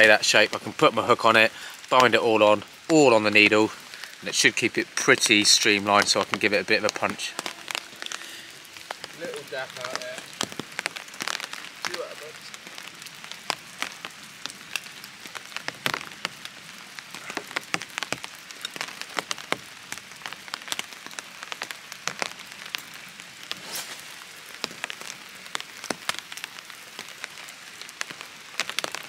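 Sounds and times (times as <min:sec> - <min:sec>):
rain falling: 0:00.0 - 0:29.0
sharp raindrop ticks: 0:00.0 - 0:29.0.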